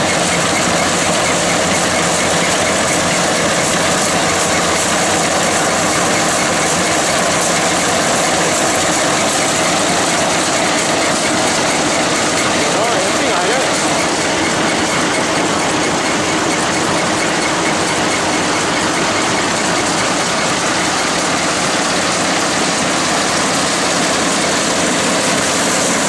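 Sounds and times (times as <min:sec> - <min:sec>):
combine harvester machinery: 0:00.0 - 0:26.0
tractor engine running: 0:00.0 - 0:26.0.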